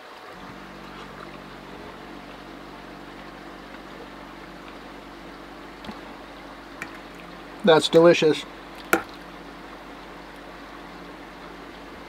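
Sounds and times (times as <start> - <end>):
creek water flowing: 0.0 - 12.0
low hum: 0.3 - 12.0.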